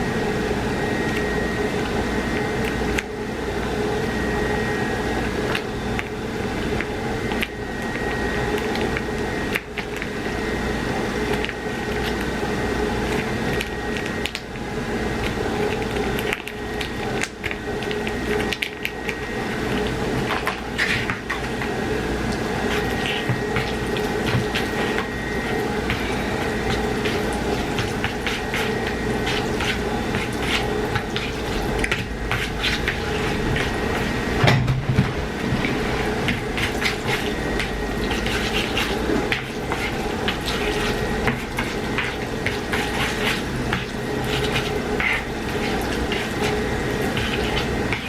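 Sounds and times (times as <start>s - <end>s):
kitchen appliance motor humming: 0.0s - 48.0s.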